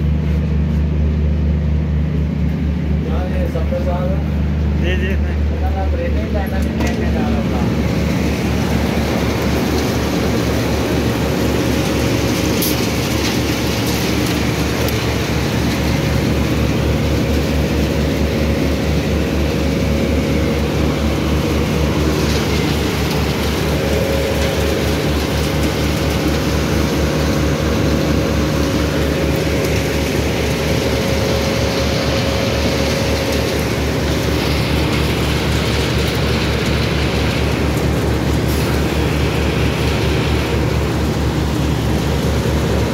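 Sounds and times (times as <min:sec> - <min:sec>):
plant machinery droning: 0:00.0 - 0:42.9
steady hum: 0:00.0 - 0:42.9.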